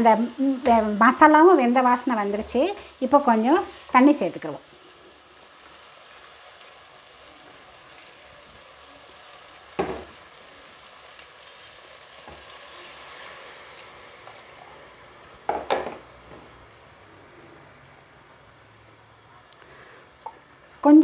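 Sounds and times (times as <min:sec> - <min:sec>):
meat sizzling in hot oil: 0:00.0 - 0:18.7.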